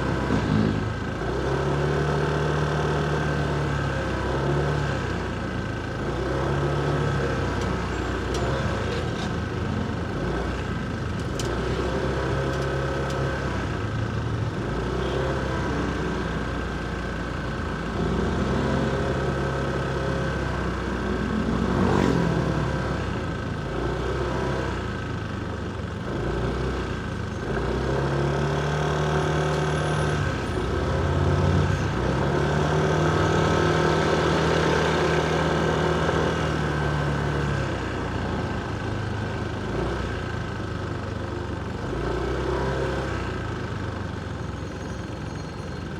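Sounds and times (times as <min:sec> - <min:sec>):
traffic: 0:00.0 - 0:45.9.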